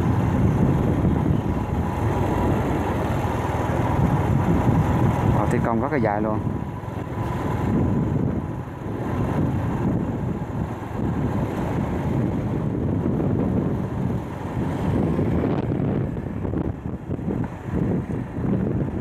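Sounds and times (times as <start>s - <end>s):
road and vehicle noise: 0.0s - 19.0s
wind buffeting microphone: 0.0s - 19.0s.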